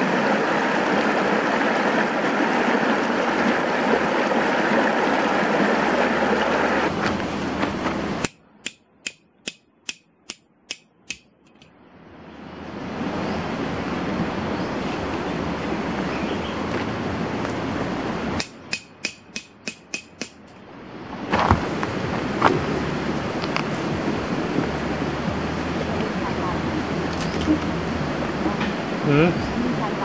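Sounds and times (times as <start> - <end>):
stream rushing over rocks: 0.0 - 8.3, 12.2 - 19.1, 19.7 - 30.0
outdoor background noise: 0.0 - 30.0.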